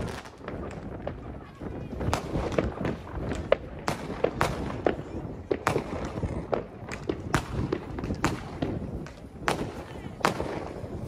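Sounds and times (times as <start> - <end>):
firecrackers banging and popping: 0.0 - 11.0.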